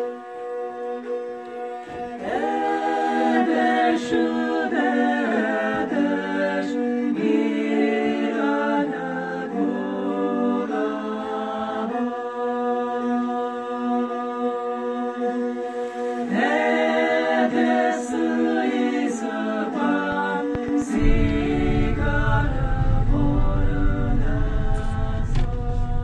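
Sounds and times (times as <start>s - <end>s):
choir singing in harmony: 0.0s - 26.0s.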